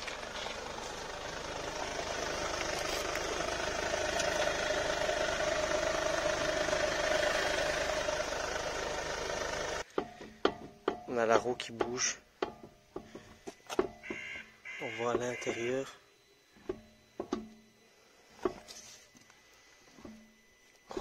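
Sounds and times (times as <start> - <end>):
car mechanical drone: 0.0 - 21.0.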